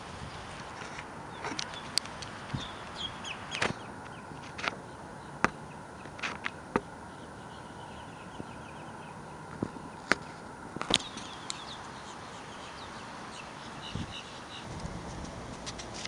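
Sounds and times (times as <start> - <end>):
outdoor hiss: 0.0 - 8.4, 10.2 - 16.0
birds chirping: 0.0 - 16.0.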